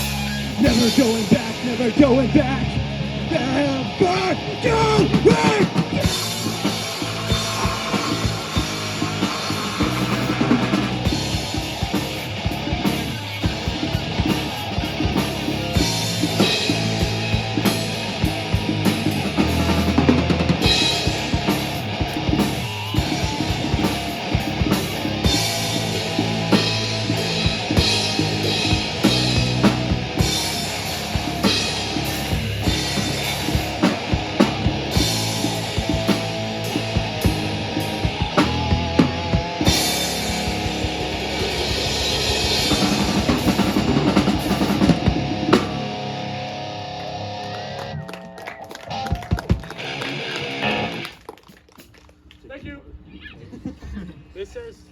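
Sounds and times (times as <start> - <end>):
drum kit beat: 0.0 - 46.7
bass and guitars: 0.0 - 51.7.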